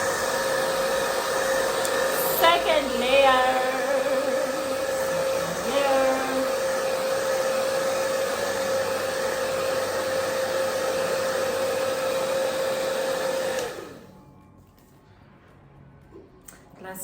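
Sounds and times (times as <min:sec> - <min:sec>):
hair dryer blowing: 0:00.0 - 0:14.1.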